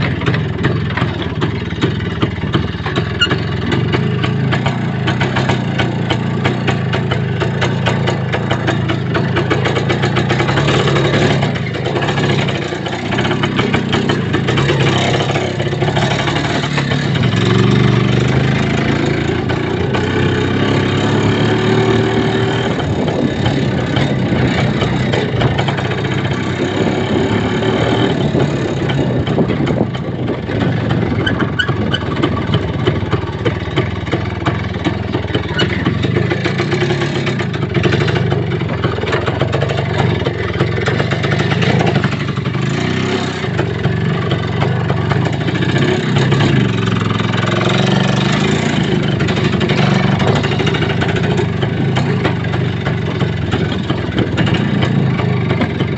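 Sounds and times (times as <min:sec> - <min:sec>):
road noise: 0:00.0 - 0:55.9
rough rattle: 0:00.0 - 0:55.9
vehicle engine running: 0:00.0 - 0:55.9.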